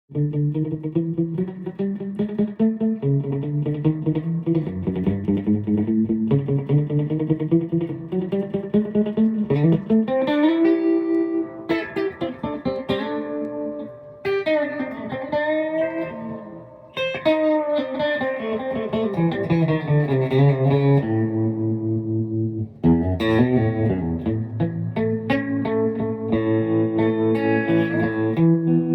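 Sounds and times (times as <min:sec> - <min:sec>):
electric guitar playing: 0:00.1 - 0:28.9.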